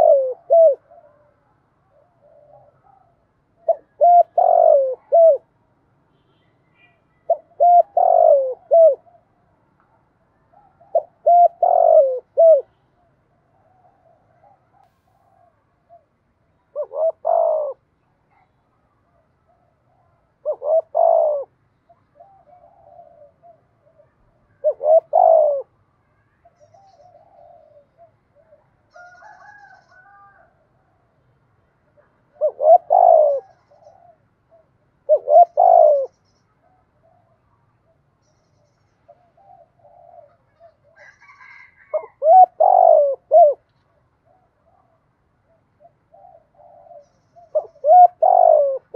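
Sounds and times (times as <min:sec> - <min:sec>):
dove cooing: 0:00.0 - 0:05.5, 0:07.3 - 0:09.4, 0:10.4 - 0:25.8, 0:26.4 - 0:31.0, 0:31.9 - 0:38.1, 0:39.0 - 0:48.9
softer higher bird calls: 0:06.1 - 0:31.3, 0:31.9 - 0:48.9.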